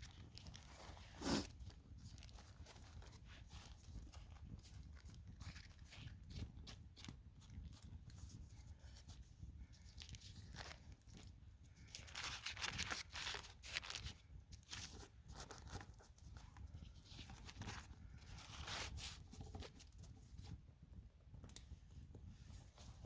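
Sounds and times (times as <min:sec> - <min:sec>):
rustling and crinkling handling noises: 0:00.0 - 0:23.0.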